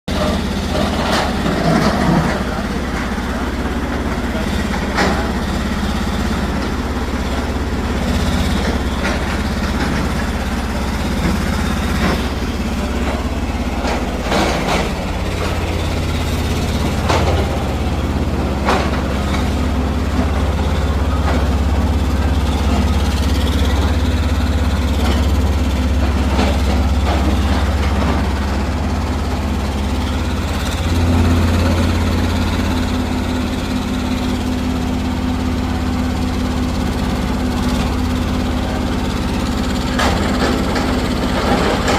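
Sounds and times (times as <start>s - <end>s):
diesel engine humming: 0.1s - 41.9s.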